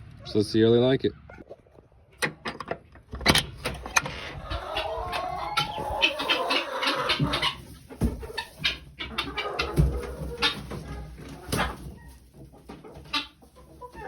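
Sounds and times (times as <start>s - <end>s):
chickens clucking: 1.2s - 14.0s.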